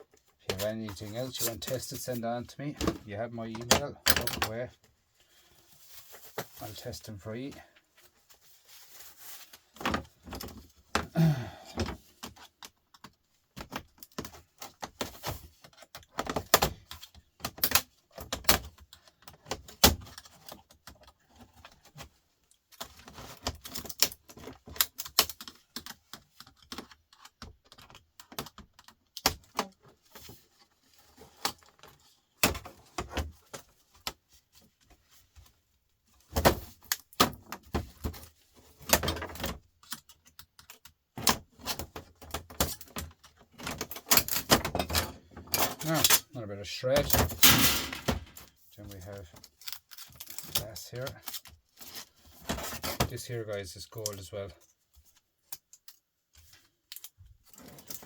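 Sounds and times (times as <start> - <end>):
plastic and metal parts rattling: 0.1 - 4.9, 8.0 - 35.5, 36.1 - 58.0.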